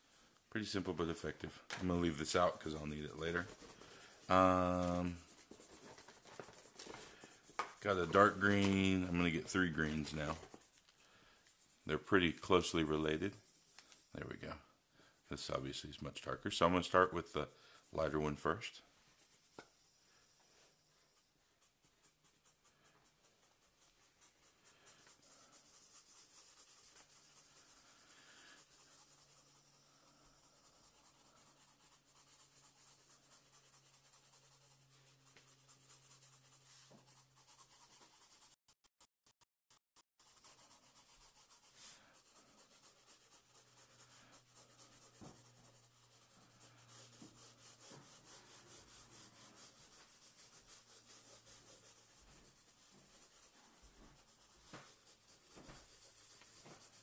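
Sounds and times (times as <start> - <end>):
marker scratching on paper: 0.7 - 14.2, 15.4 - 39.4, 40.0 - 57.0.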